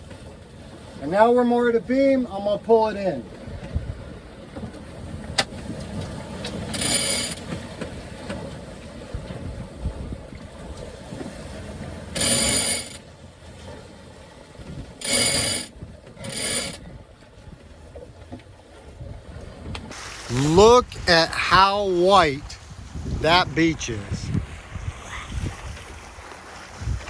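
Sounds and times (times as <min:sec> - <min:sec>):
low rumble of wind and water: 0:00.0 - 0:27.0.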